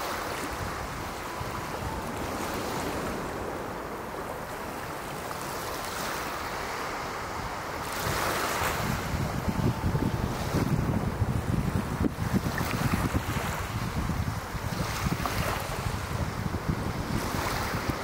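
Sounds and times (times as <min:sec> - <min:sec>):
waves washing on pebbles: 0:00.0 - 0:18.0
wind on microphone: 0:00.0 - 0:18.0.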